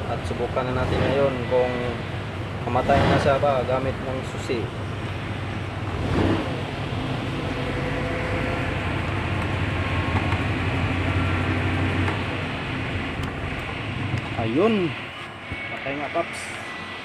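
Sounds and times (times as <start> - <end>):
diesel truck engine idling: 0.0 - 16.6.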